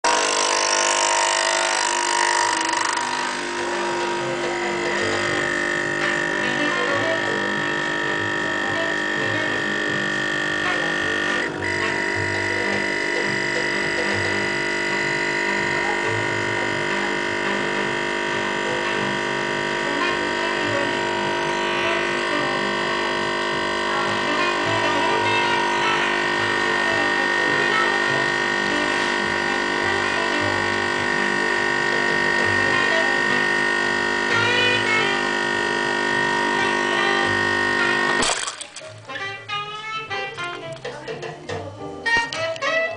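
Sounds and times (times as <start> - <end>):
espresso machine pump humming: 0.0 - 40.2.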